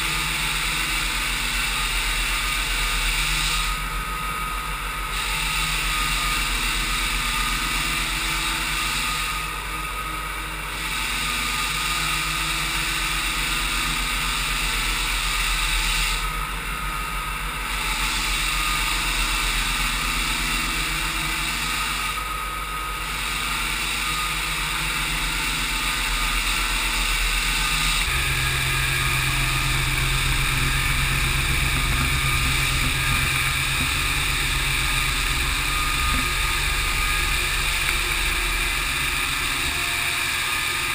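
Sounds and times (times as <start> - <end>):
floor sander running: 0.0 - 40.9.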